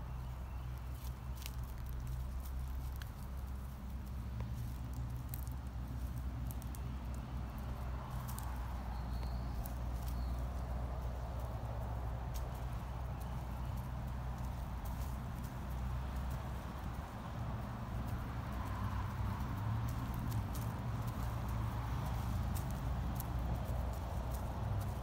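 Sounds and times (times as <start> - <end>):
dry leaves crackling underfoot: 0.0 - 25.0
steady low rumble: 0.0 - 25.0.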